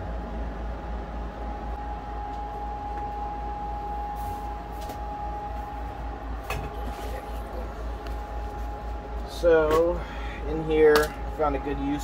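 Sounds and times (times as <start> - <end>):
low machinery rumble: 0.0 - 12.0
thin hum: 0.0 - 12.0.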